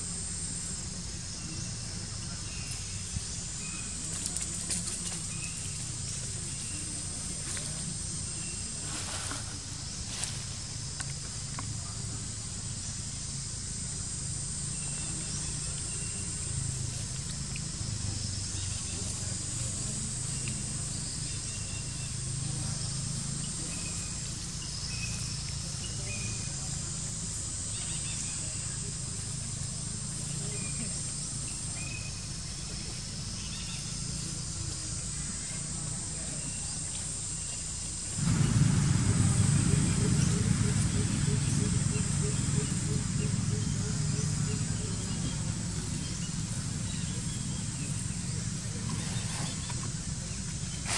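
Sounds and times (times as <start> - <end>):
faint chirps: 0.0 - 50.9
high-pitched insect chorus: 0.0 - 50.9.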